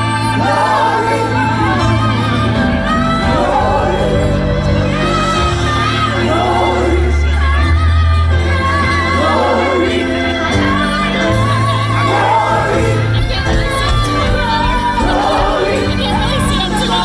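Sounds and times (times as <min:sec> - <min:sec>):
gospel choir singing: 0:00.0 - 0:17.0
instrumental backing with bass: 0:00.0 - 0:17.0.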